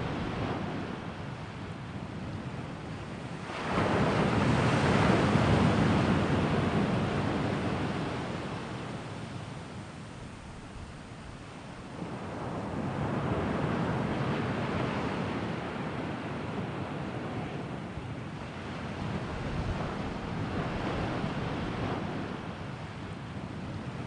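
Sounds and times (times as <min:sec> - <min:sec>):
sea waves breaking on shore: 0:00.0 - 0:24.0.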